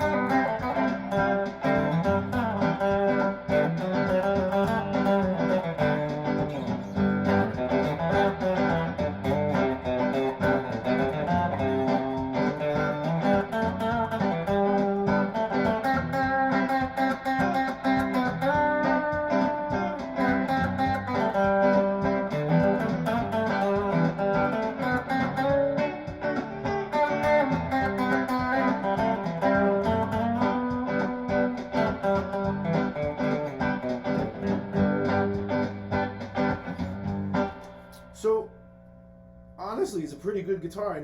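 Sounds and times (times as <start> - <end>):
electric guitar playing: 0.0 - 41.0.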